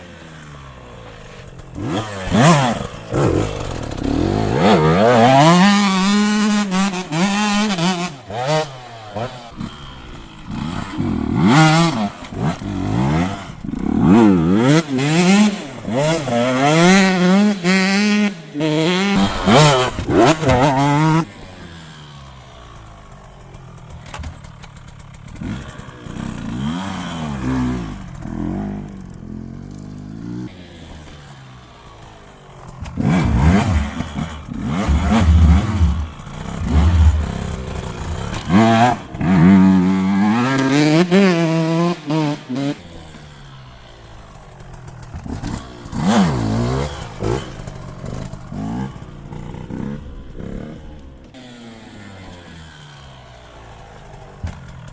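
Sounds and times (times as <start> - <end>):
two-stroke motocross engine revving: 0.0 - 54.9.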